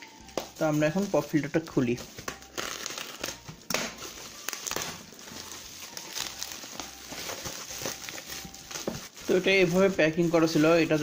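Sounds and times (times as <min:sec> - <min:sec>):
bubble wrap mailer crinkling: 0:00.0 - 0:11.0.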